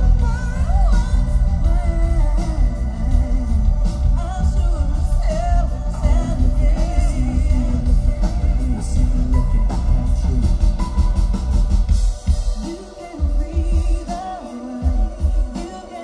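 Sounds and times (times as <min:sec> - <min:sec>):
woman singing: 0:00.0 - 0:10.8, 0:12.2 - 0:16.0
live trip-hop band playing: 0:00.0 - 0:16.0.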